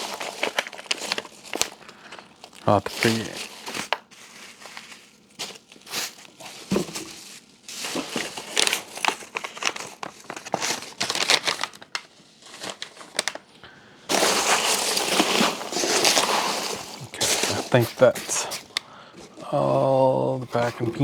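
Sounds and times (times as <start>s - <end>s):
packing foam rustling: 0.0s - 21.0s.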